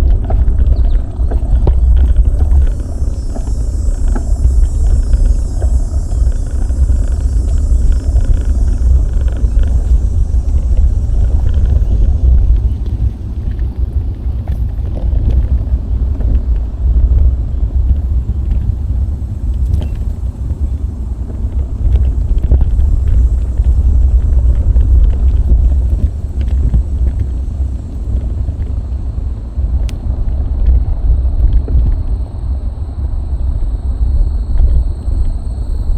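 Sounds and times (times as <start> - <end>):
faint ticks from bicycle: 0.0 - 32.6
wind buffeting microphone: 0.0 - 35.9.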